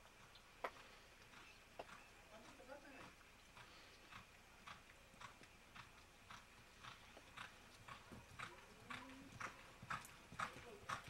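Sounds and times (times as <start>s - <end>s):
horse hoofbeats on dirt: 0.2s - 11.0s.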